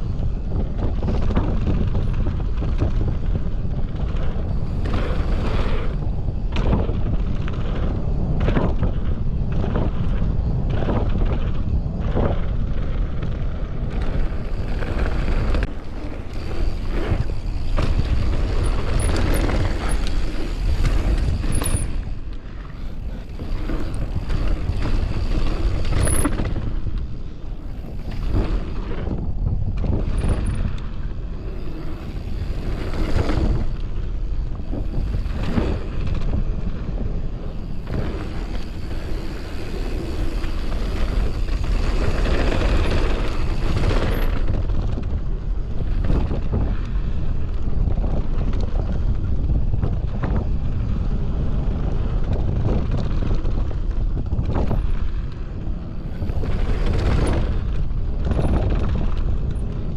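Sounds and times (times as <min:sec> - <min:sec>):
bike rattling and knocking: 0:00.0 - 0:59.9
wind rushing over microphone: 0:00.0 - 0:59.9.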